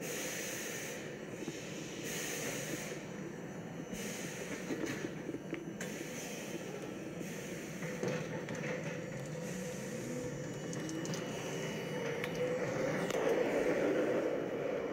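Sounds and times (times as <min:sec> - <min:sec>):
subway train rumble: 0:00.0 - 0:14.9
faint rising whine: 0:00.3 - 0:14.9.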